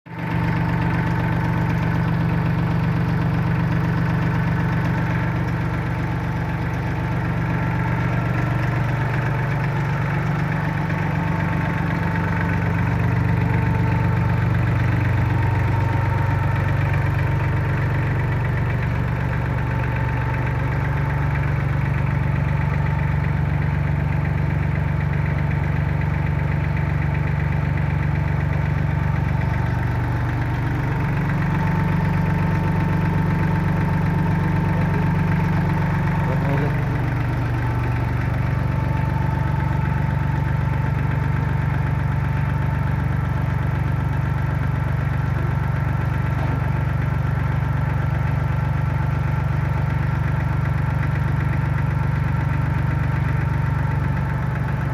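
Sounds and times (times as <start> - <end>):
tractor diesel engine idling: 0.1 - 54.9.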